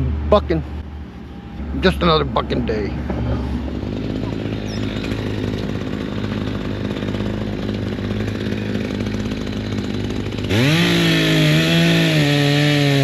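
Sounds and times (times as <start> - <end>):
chainsaw engine revving: 1.6 - 13.0.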